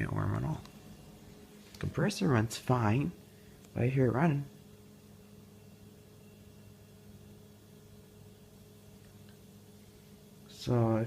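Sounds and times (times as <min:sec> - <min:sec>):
refrigerator compressor humming: 0:00.0 - 0:11.0.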